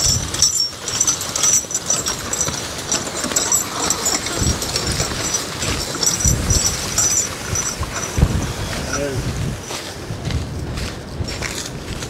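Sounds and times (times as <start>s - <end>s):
horse walking: 0.0s - 12.0s
wind gusting on microphone: 0.0s - 12.0s
wooden sled dragging over grass: 0.0s - 12.0s.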